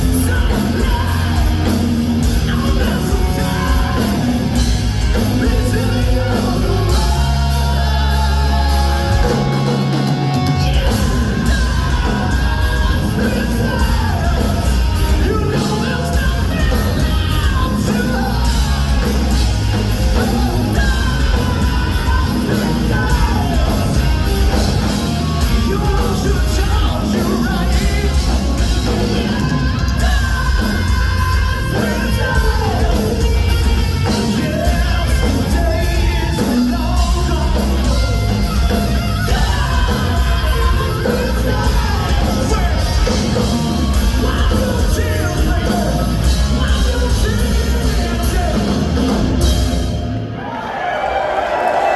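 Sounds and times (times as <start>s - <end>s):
man singing and yelling: 0.0s - 49.6s
hard rock band playing: 0.0s - 50.6s.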